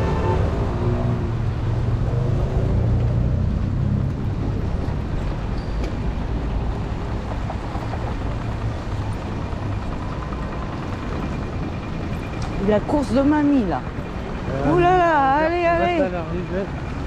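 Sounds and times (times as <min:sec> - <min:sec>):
tram low rumble: 0:00.0 - 0:17.0.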